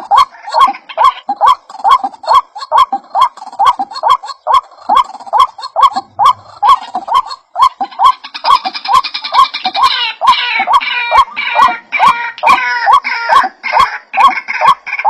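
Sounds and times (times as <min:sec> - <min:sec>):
waterhen calls: 0:00.0 - 0:15.0.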